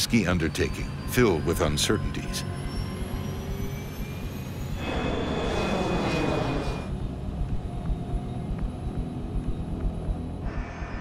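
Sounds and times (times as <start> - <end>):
jet airliner rumble: 0.0 - 11.0.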